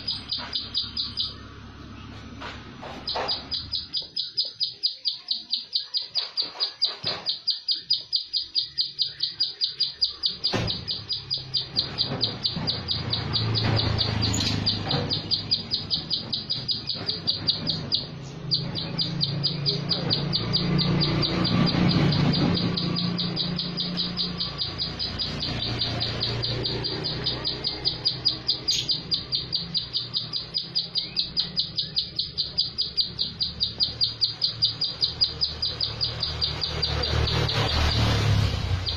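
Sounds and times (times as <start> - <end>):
bird calling rapid high notes: 0.0 - 38.9.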